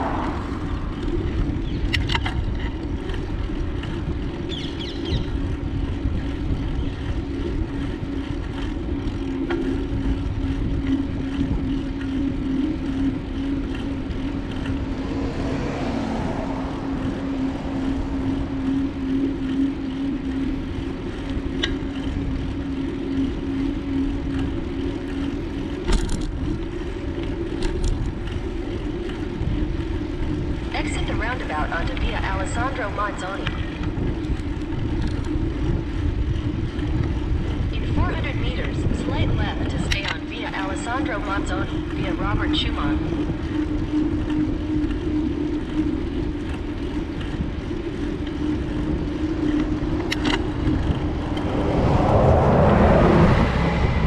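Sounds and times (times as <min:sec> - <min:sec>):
steady hum: 0:00.0 - 0:54.0
wind rushing over microphone: 0:00.0 - 0:54.0.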